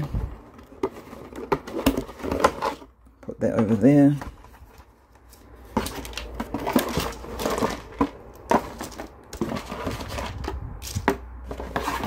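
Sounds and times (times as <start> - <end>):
rustling of wiring: 0.0 - 12.0.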